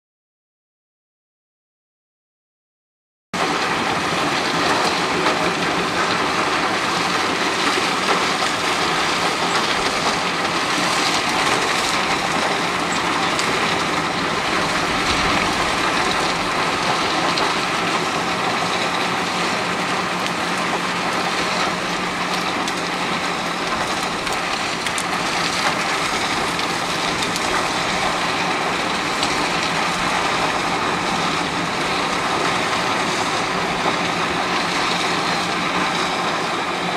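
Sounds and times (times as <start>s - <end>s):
heavy engine drone: 3.4s - 36.9s
wood chipper chipping: 3.4s - 36.9s.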